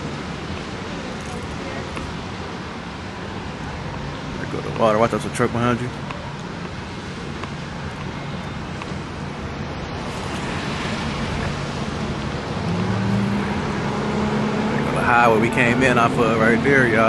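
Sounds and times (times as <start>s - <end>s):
low engine hum: 0.0s - 17.0s
wind and road noise: 0.0s - 17.0s.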